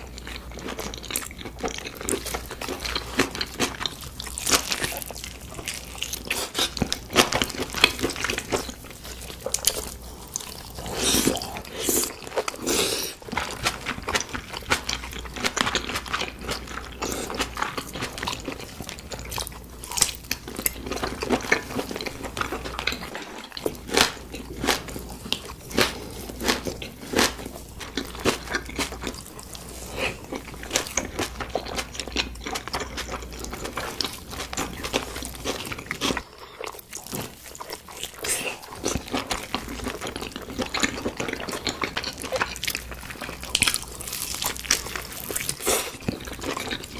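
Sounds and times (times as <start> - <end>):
wet chewing and smacking: 0.0 - 46.9.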